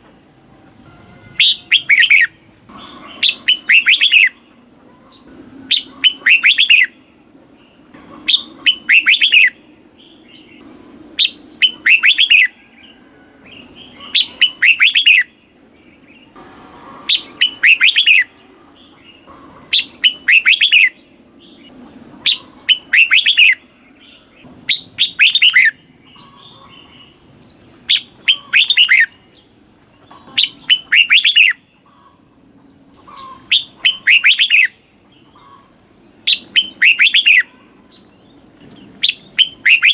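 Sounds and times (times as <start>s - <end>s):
bulbul singing bright phrases: 1.0s - 16.4s, 17.1s - 39.9s.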